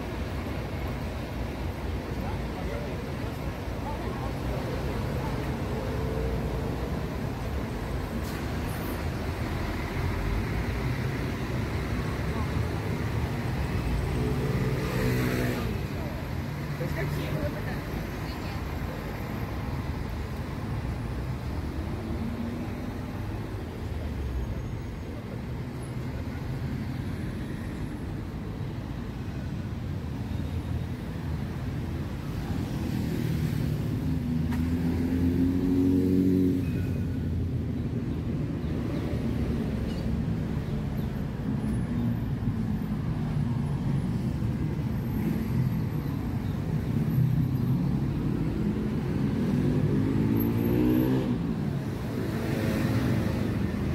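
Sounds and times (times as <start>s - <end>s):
car engines passing: 0.0s - 53.9s.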